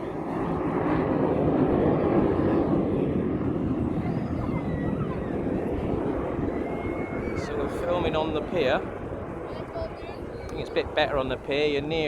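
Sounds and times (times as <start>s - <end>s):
jet flying past: 0.0s - 12.0s.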